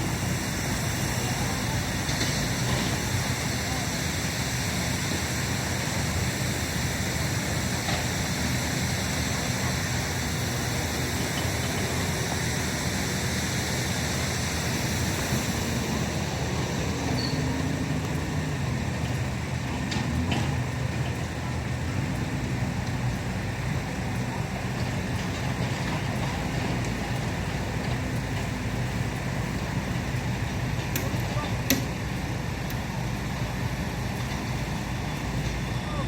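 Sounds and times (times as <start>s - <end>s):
low engine-like hum: 0.0s - 36.0s.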